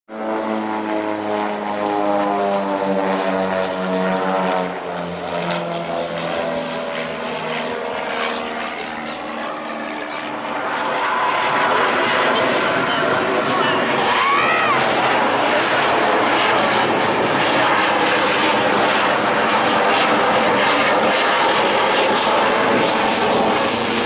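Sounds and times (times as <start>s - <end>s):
aircraft engine hum: 0.1s - 24.0s.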